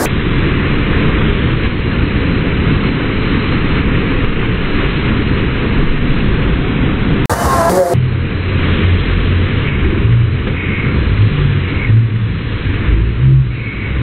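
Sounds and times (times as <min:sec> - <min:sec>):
muffled rushing water wave: 0:00.0 - 0:14.0.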